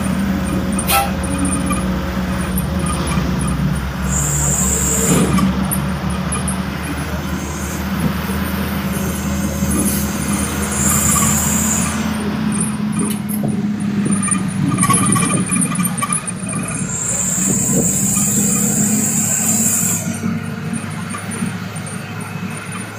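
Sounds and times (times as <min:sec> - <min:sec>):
truck engine running: 0:00.0 - 0:22.9
tyre and road noise: 0:00.0 - 0:22.9.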